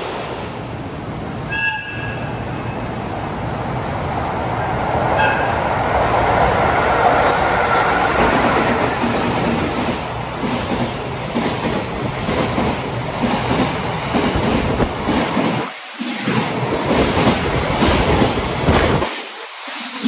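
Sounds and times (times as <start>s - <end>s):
freight train passing: 0.0s - 20.0s.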